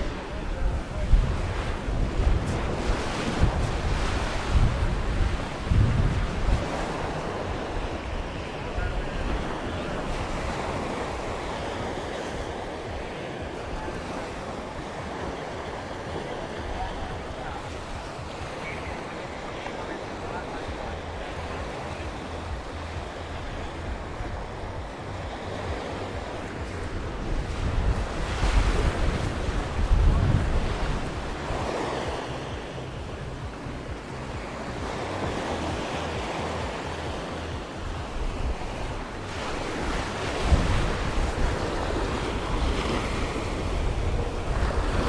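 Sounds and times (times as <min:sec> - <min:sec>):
surf breaking on beach: 0:00.0 - 0:45.0
wind buffeting microphone: 0:00.0 - 0:45.0.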